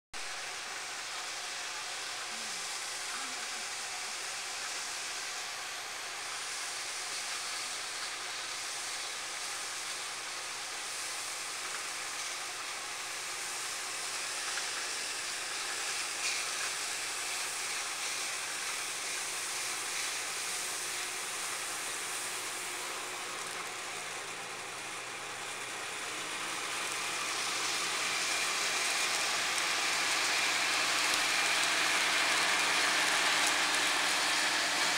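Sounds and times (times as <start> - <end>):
harvesting machinery hissing: 0.3 - 34.9.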